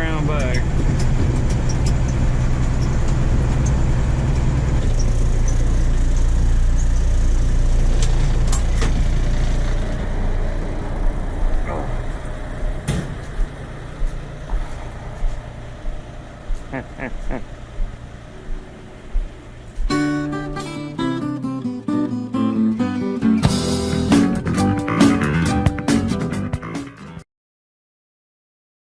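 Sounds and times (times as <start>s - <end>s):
vehicle engine and road noise: 0.0s - 27.2s.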